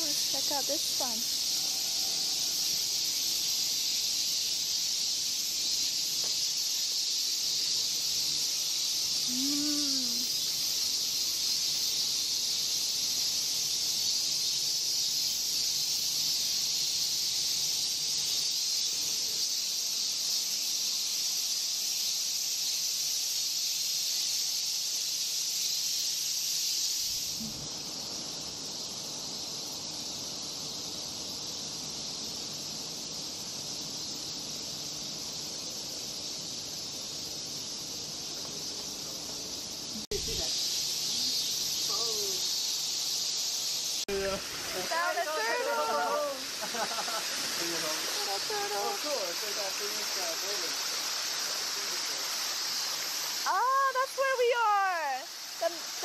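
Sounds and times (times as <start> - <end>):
cicadas chorus hissing: 0.0 - 56.0.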